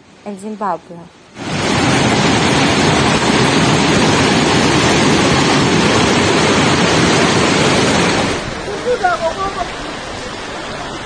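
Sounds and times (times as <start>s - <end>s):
floodwater rushing: 1.2s - 11.0s.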